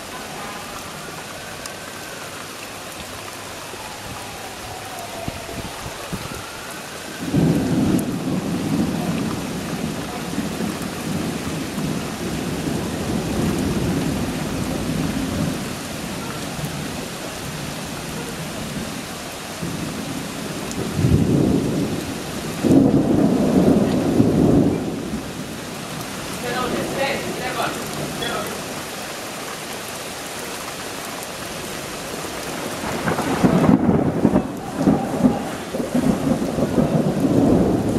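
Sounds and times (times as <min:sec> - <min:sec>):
steady rain: 0:00.0 - 0:37.9
thunder rumbling: 0:03.7 - 0:28.9, 0:31.7 - 0:37.9.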